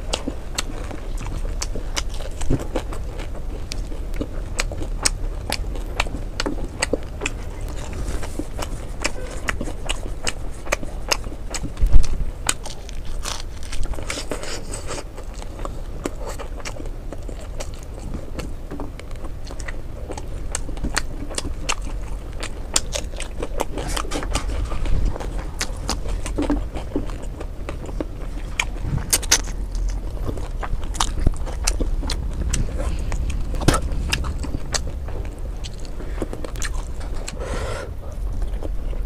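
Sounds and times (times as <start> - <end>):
chewing and mouth sounds: 0.0 - 39.0.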